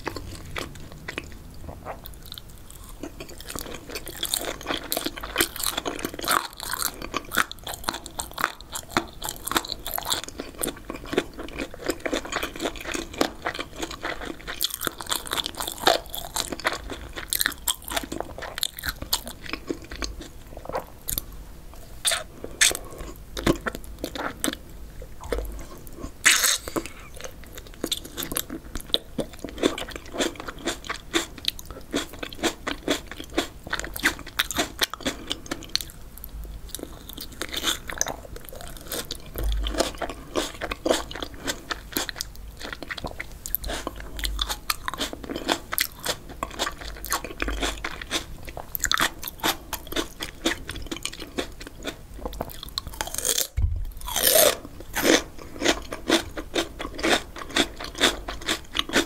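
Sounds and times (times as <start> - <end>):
crunchy chewing: 0.0 - 21.3, 25.2 - 59.0.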